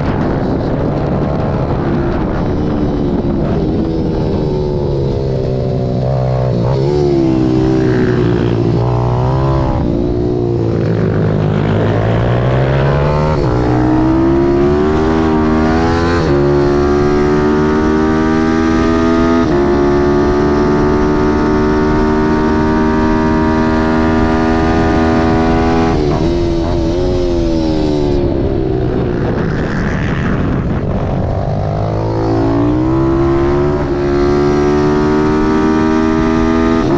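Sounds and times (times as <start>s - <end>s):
motorbike engine revving: 0.0s - 36.9s.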